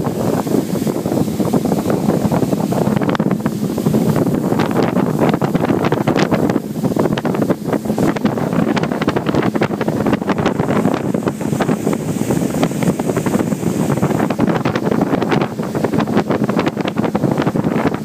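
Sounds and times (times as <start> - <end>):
boat motor: 0.0 - 18.0
water noise: 0.0 - 18.0
wind on microphone: 0.0 - 18.0.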